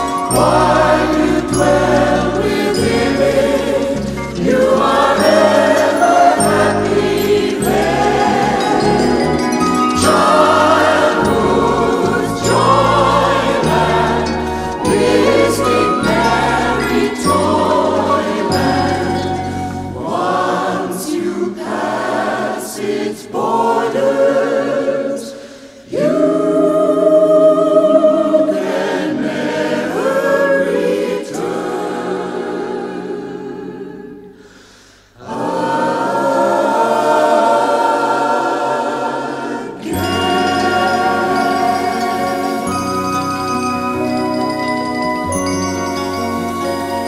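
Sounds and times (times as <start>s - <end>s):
choir singing gospel song: 0.0s - 47.0s.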